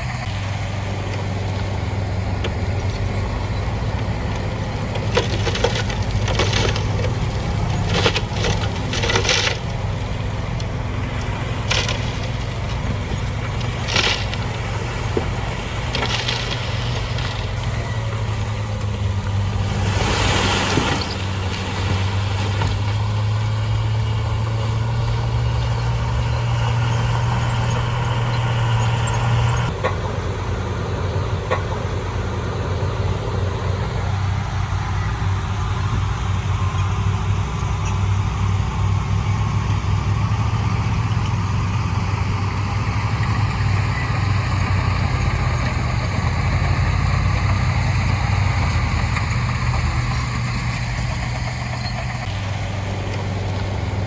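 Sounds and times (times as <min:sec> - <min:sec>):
diesel machinery engine humming: 0:00.0 - 0:54.0.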